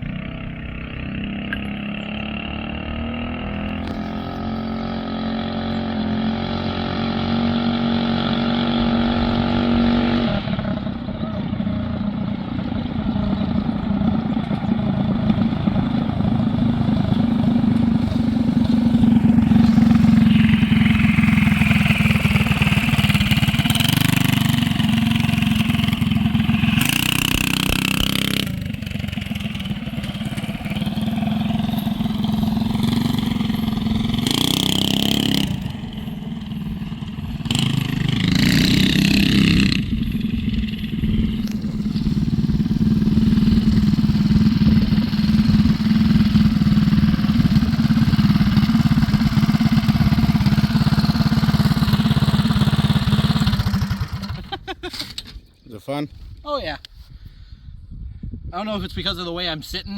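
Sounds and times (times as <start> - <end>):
small gas engine revving: 0.0 - 55.2.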